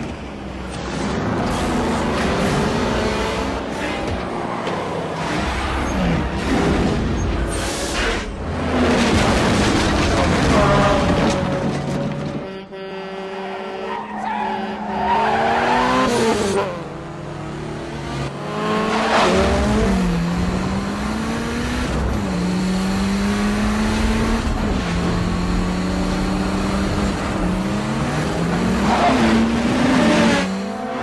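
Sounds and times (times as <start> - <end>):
car engines revving hard: 0.0 - 11.2, 13.9 - 31.0.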